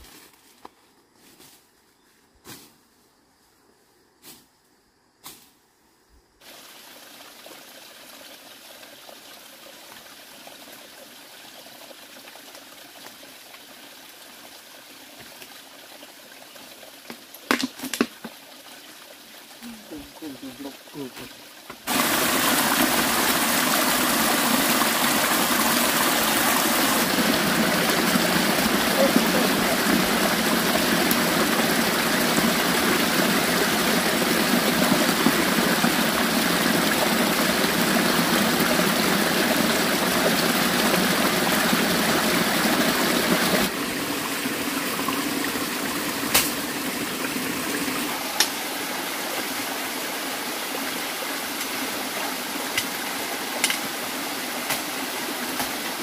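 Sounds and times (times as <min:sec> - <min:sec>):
running water: 0:06.4 - 0:56.0.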